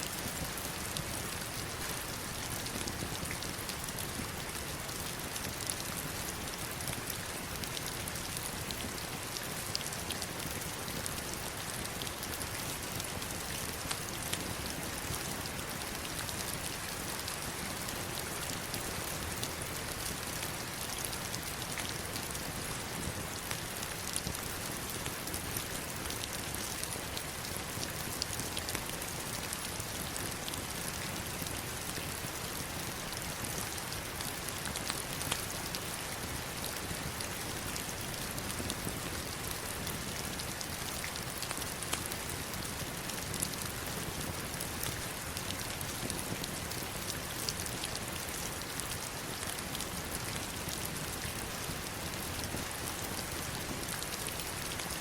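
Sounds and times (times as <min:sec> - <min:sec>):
heavy rain on stones and water: 0:00.0 - 0:55.0.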